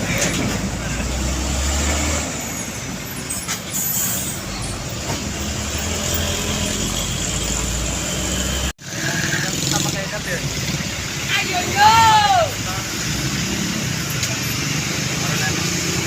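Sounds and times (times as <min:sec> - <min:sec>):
diesel truck engines rumbling: 0:00.0 - 0:16.0
road noise: 0:00.0 - 0:16.0.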